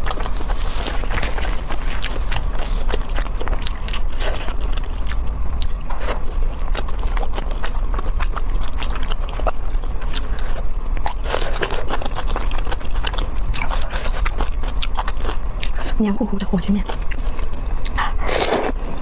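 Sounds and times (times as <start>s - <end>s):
person chewing food: 0.0s - 16.0s, 16.8s - 18.9s
steady low hum: 0.0s - 19.0s.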